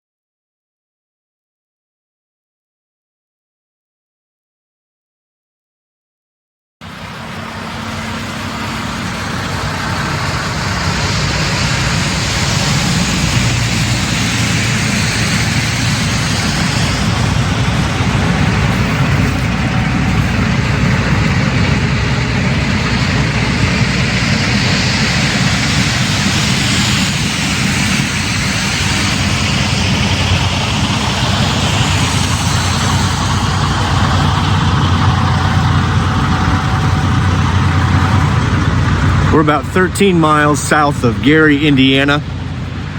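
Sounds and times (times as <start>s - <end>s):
road and wind noise hiss: 6.8s - 42.9s
truck engine drone: 6.8s - 42.9s.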